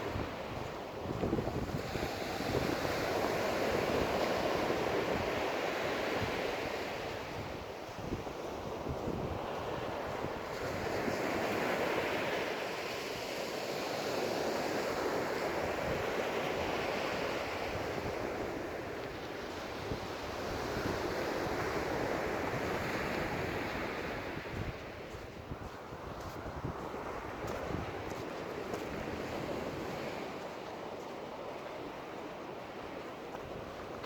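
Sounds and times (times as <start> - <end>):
wind buffeting microphone: 0.0 - 12.3, 15.4 - 31.1.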